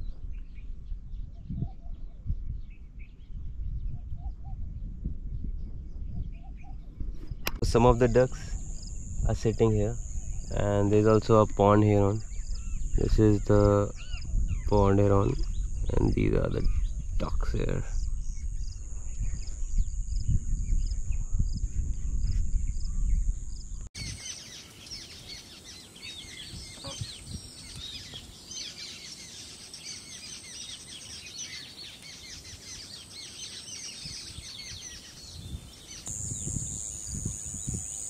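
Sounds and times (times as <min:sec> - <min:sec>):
wind rumbling on microphone: 0:00.0 - 0:24.4, 0:25.0 - 0:38.0
birds chirping and calling: 0:05.4 - 0:38.0.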